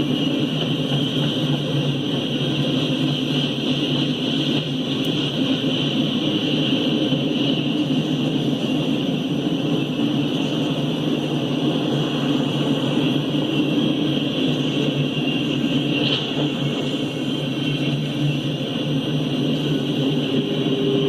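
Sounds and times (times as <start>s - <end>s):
freight train rumble: 0.0s - 21.0s.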